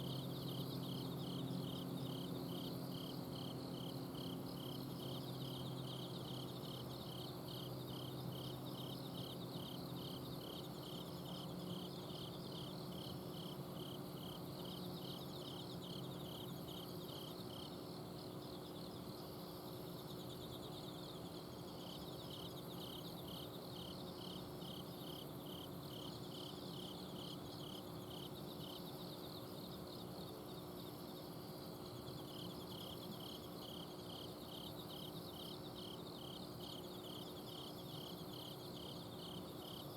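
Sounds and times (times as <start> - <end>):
cricket chirping: 0.0 - 39.9
insects trilling: 0.0 - 39.9.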